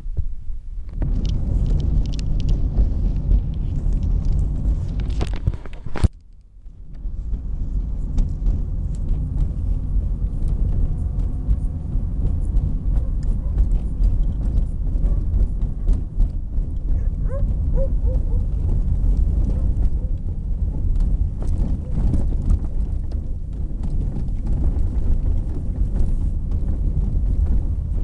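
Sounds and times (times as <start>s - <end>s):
car road and wind noise: 0.0s - 28.0s.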